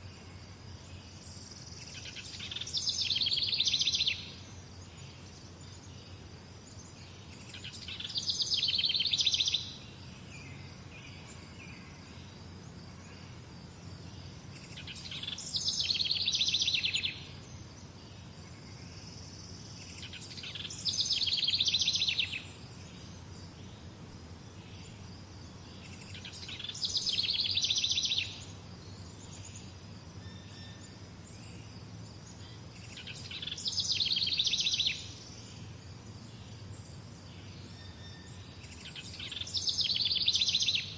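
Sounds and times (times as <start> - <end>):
low background noise: 0.0 - 40.9
songbird trilling song: 0.0 - 40.9.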